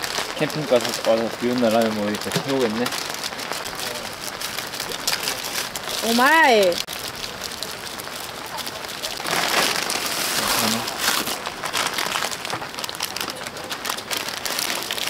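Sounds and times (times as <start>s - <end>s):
rain on a tent: 0.0s - 15.0s.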